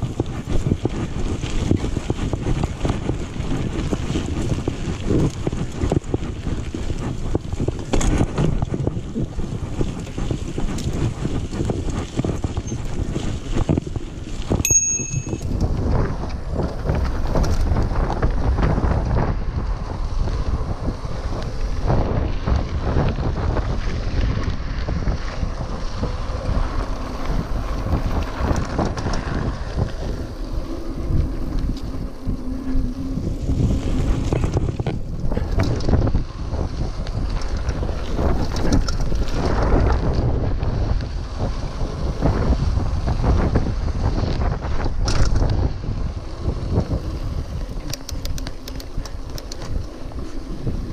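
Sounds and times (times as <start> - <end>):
bike rattling over bumps: 0.0 - 50.9
wind buffeting microphone: 0.0 - 50.9.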